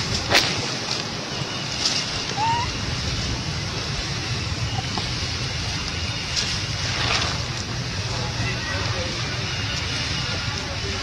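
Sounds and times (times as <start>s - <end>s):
hissing outdoor background noise: 0.0s - 11.0s.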